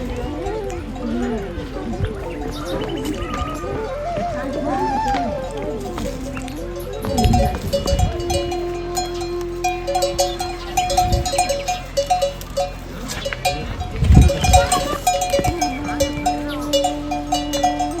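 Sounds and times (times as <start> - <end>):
cowbells clanking: 0.0 - 18.0.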